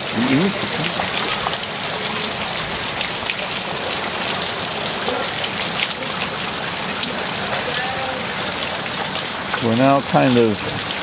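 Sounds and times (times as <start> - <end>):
heavy rain on floodwater: 0.0 - 11.0.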